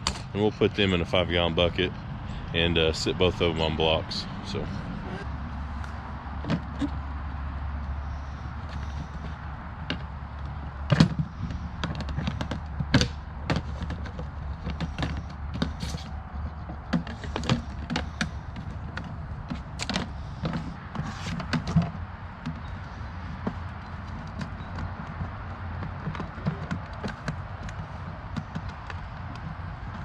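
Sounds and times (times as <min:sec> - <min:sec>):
steady low hum: 0:00.0 - 0:30.0
knocks taps and clatter: 0:05.3 - 0:30.0.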